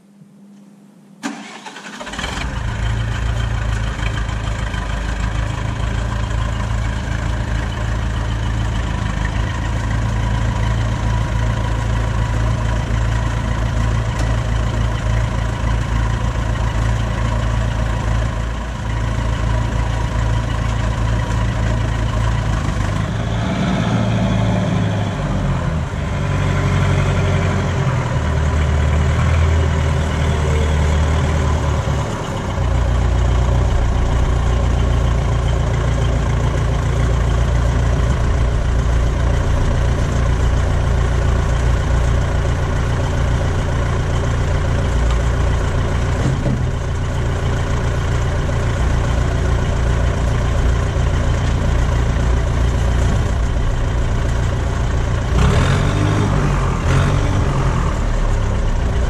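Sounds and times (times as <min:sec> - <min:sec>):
forklift engine running: 0:01.2 - 0:59.0.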